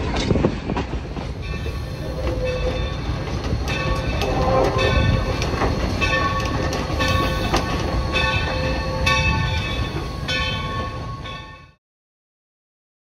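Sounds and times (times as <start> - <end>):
wheels clacking over rail joints: 0.0 - 11.6
train wheels rumbling on rail: 0.0 - 11.8.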